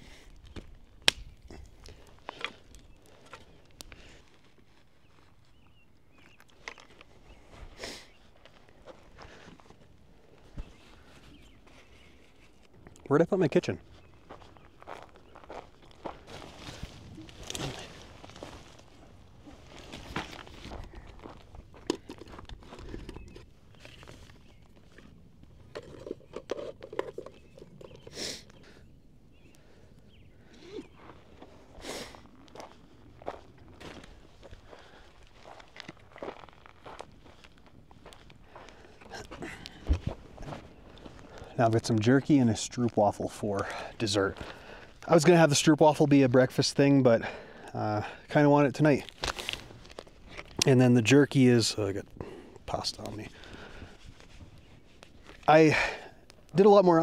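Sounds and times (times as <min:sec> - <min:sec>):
camp gear rustling and clicking: 0:00.0 - 0:28.8, 0:29.4 - 0:45.4, 0:48.8 - 0:57.0.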